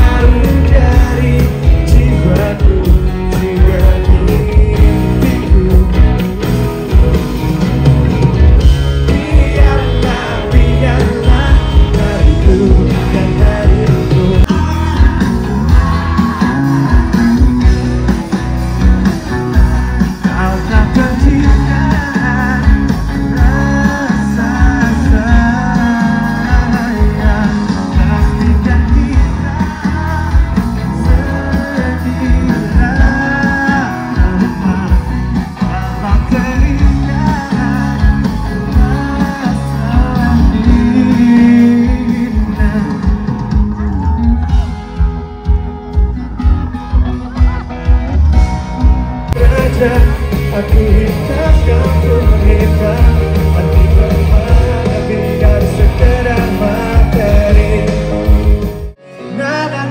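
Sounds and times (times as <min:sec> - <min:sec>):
man singing lead vocals: 0:00.0 - 0:47.9, 0:48.7 - 0:59.9
live rock band playing: 0:00.0 - 0:59.9.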